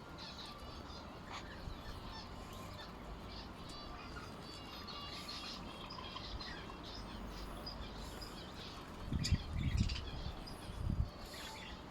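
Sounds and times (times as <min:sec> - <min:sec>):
cage birds chirping: 0:00.0 - 0:11.9.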